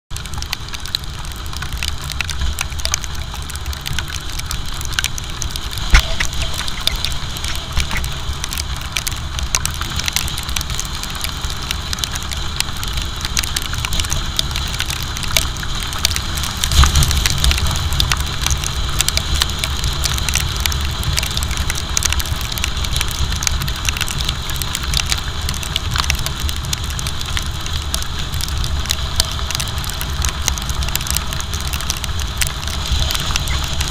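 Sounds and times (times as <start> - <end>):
raindrops ticking on camera: 0.1 - 33.9
tyre hiss on wet road: 0.4 - 33.9.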